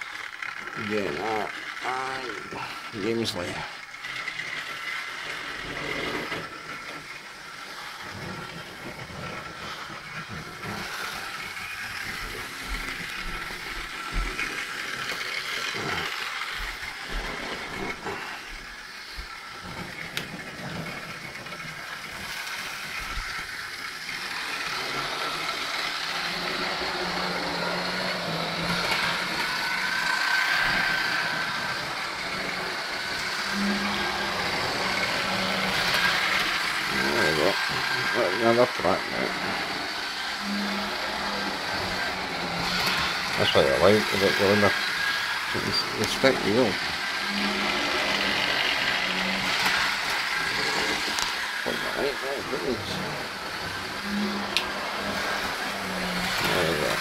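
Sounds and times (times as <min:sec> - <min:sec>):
model train humming and rattling: 0:00.0 - 0:57.0.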